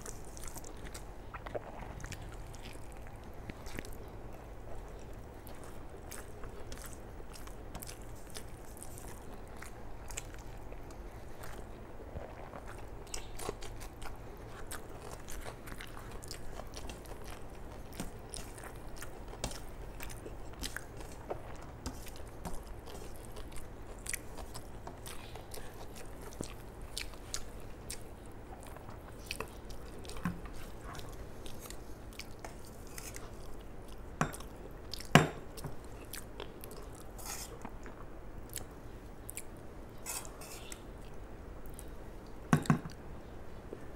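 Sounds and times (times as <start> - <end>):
person chewing rice: 0.0 - 42.4.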